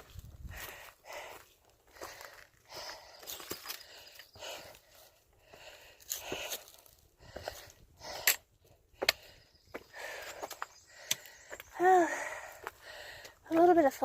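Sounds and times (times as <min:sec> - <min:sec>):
footsteps on rocky trail: 0:00.0 - 0:14.0.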